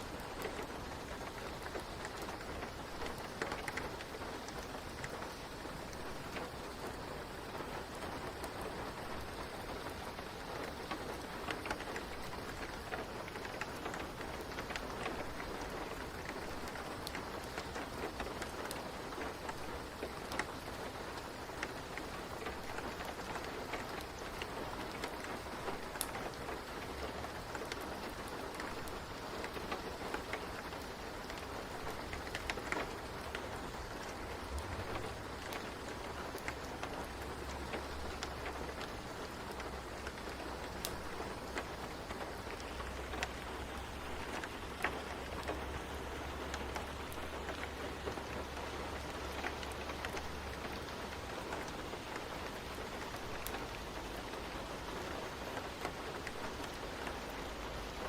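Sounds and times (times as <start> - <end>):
rain falling: 0.0 - 58.0
wood fire crackling: 0.0 - 58.0.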